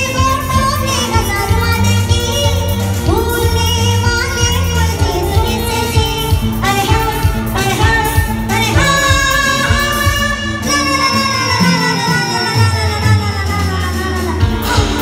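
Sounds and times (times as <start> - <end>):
live band playing: 0.0 - 15.0
woman singing into a microphone: 0.0 - 15.0.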